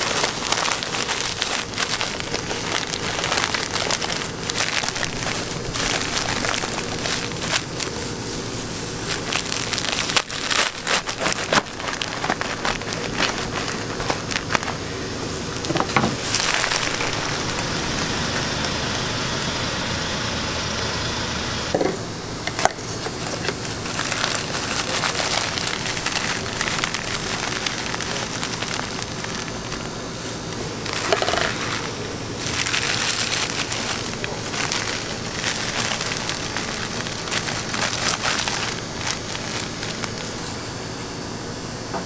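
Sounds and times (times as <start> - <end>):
knife crunching through candy: 0.0 - 14.8, 15.6 - 17.6, 22.5 - 40.5.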